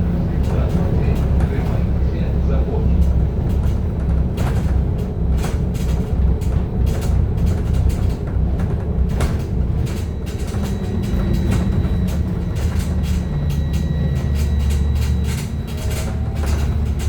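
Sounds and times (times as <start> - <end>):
trolleybus rumble: 0.0 - 17.0
body rattles and knocks: 2.8 - 17.0.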